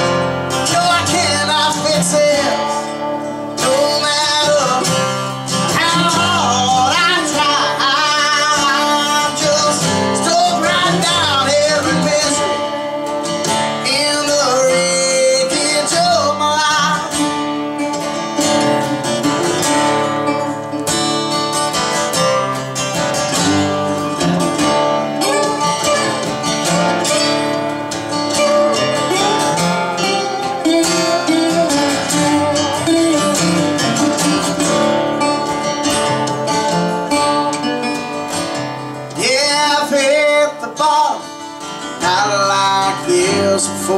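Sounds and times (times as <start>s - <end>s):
resonator guitar gliding lead line: 0.0s - 39.3s
strummed acoustic guitar chords: 0.0s - 43.9s.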